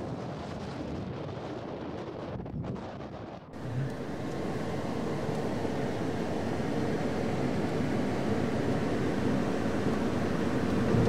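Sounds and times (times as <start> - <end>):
strong wind buffeting a vehicle: 0.0 - 11.0.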